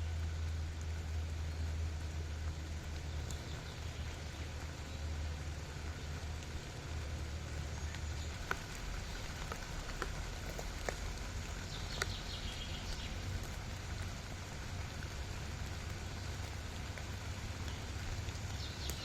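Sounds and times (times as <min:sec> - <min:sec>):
rain pattering: 0:00.0 - 0:19.0
drops ticking: 0:00.4 - 0:19.0.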